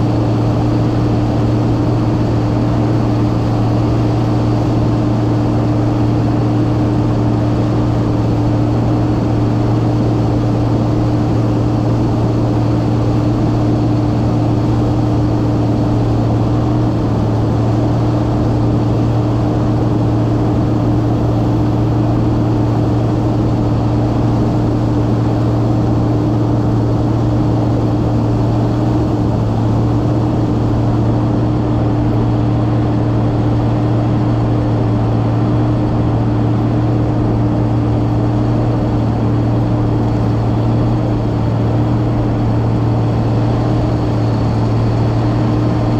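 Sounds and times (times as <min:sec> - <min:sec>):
combine harvester droning: 0:00.0 - 0:45.9.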